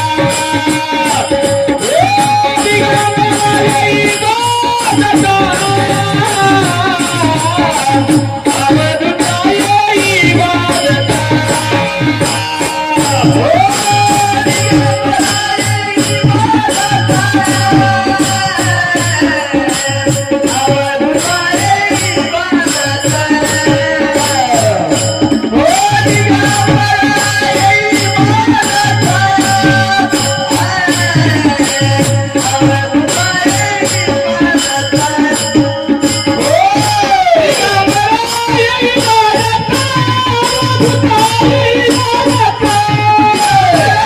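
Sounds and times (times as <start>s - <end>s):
hand drum beat: 0.0s - 44.0s
jingling percussion: 0.0s - 44.0s
man singing in high voice: 0.0s - 44.0s.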